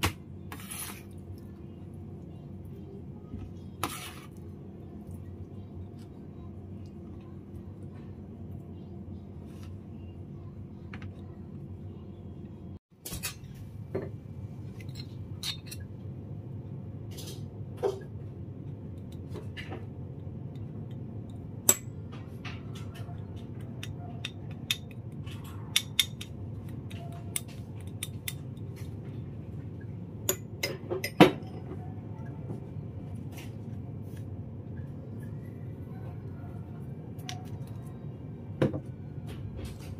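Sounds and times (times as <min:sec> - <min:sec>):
low background hum: 0:00.0 - 0:39.9.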